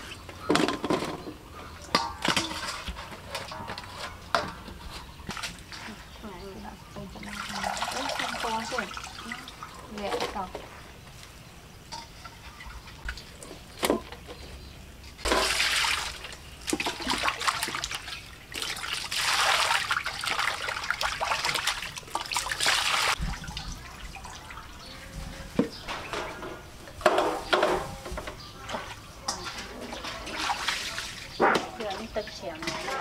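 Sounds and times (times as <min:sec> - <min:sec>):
water sloshing in a metal basin: 0:00.0 - 0:33.0.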